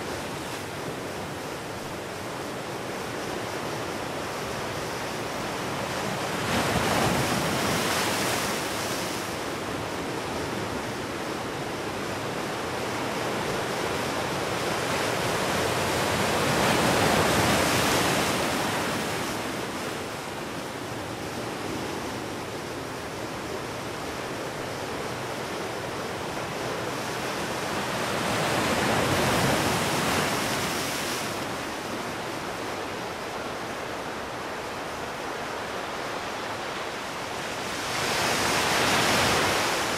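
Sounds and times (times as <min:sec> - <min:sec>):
ocean surf on shore: 0:00.0 - 0:39.9.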